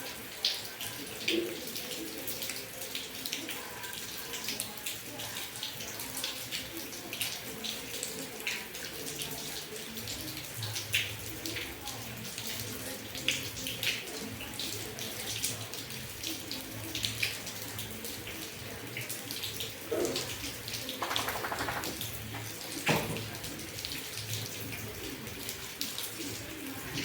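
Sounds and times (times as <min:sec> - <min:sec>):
steady rain falling: 0:00.0 - 0:27.0
water drips and splashes: 0:00.0 - 0:27.0.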